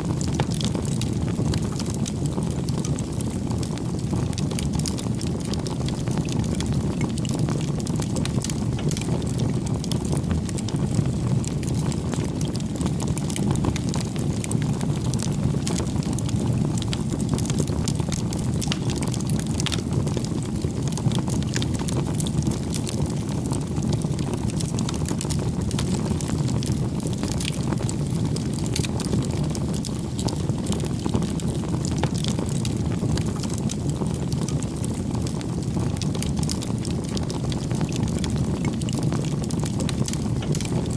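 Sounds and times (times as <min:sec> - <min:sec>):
campfire flames rushing: 0:00.0 - 0:40.9
fire crackling and popping: 0:00.0 - 0:40.9.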